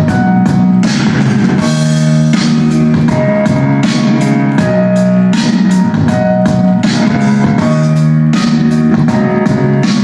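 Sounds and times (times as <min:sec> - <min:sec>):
song with drums and guitar: 0:00.0 - 0:10.0.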